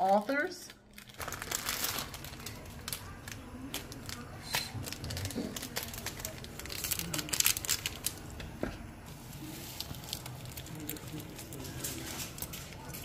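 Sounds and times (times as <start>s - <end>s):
plastic packet crinkling and tearing: 0.0s - 8.4s, 9.4s - 13.0s.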